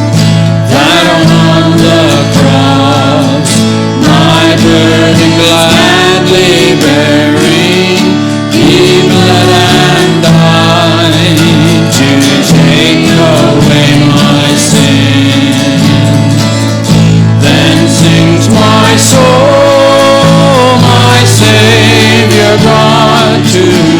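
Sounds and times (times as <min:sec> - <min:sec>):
hymn singing: 0:00.0 - 0:23.9
instrumental accompaniment: 0:00.0 - 0:23.9.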